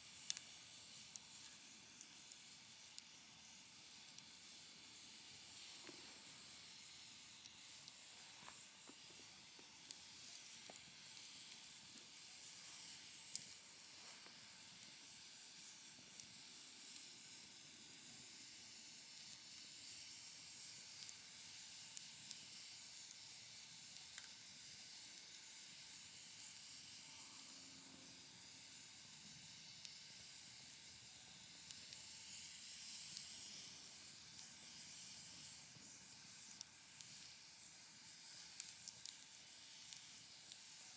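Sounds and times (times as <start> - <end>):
wood fire hissing: 0.0 - 40.9.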